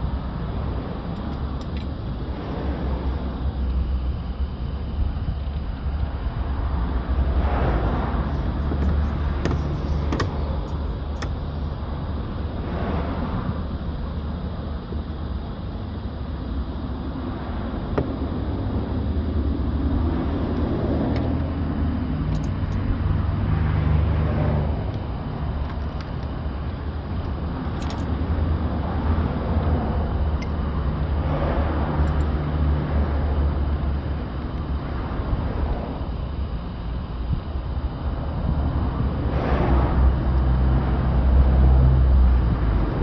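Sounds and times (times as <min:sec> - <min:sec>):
low background rumble: 0:00.0 - 0:43.0.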